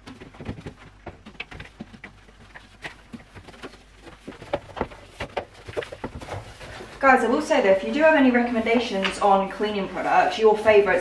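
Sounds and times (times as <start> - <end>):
cleaning pad rubbing plastic: 1.8 - 11.0.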